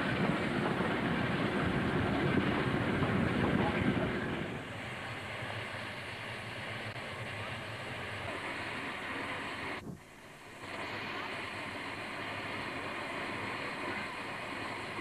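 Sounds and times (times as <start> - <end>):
steam venting: 0.0 - 15.0.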